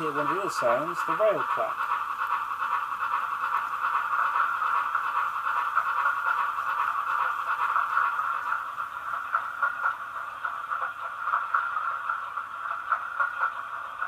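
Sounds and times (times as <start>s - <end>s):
model steam locomotive sound: 0.0s - 14.0s
wheels clacking over rail joints: 0.0s - 14.0s.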